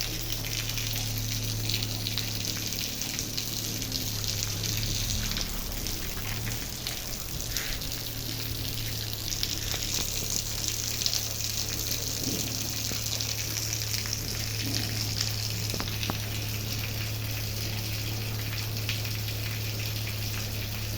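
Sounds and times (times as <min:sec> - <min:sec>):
low hum: 0:00.0 - 0:17.8
rain falling steadily: 0:00.0 - 0:20.9.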